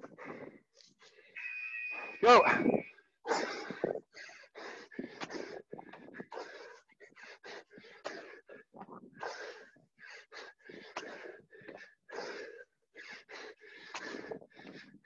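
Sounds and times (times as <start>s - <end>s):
heavy rapid breathing: 0.0s - 1.4s, 3.3s - 15.0s.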